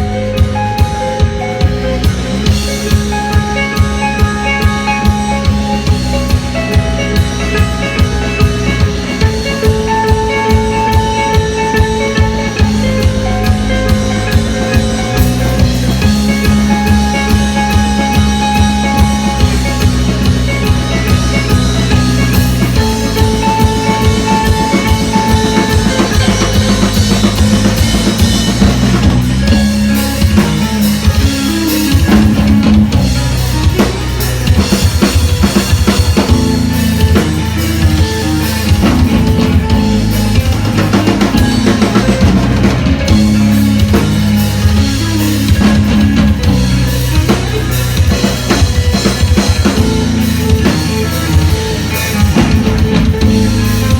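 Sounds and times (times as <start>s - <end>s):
band playing live: 0.0s - 53.9s
bass drum beat: 0.0s - 53.9s
guitar: 0.0s - 53.9s.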